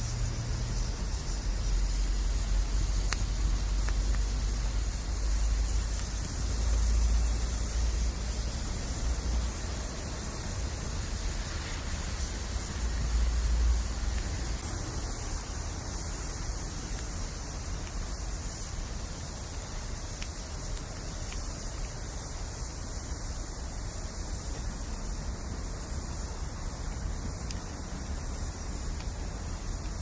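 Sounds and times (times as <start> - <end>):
campfire hissing and popping: 0.0 - 30.0.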